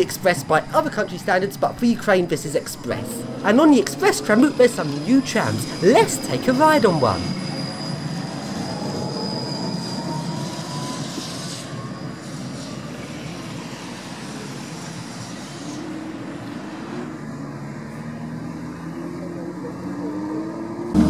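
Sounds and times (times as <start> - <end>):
tram wheels running on rails: 0.0 - 19.0
tram motor whine: 0.0 - 21.0.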